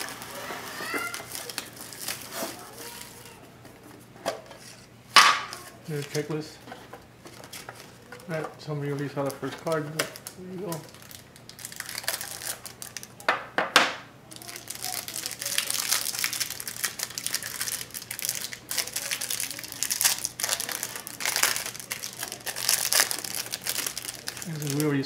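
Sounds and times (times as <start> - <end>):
plastic wrapping crinkling: 0.0 - 3.4, 5.5 - 13.3, 14.3 - 25.0
sharp plastic crackles: 0.0 - 3.4, 5.2 - 25.0.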